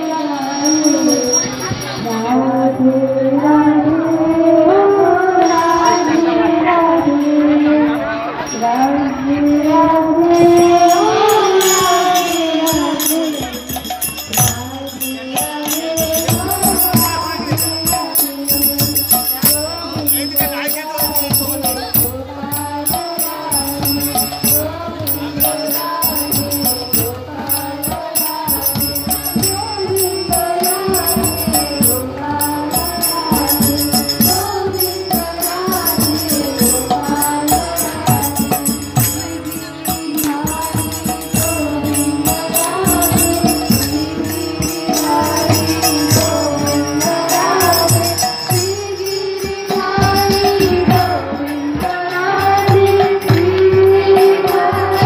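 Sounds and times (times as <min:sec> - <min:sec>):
harmonium: 0:00.0 - 0:55.0
jingling hand cymbals: 0:00.0 - 0:55.0
women singing call-and-response chant: 0:00.0 - 0:55.0.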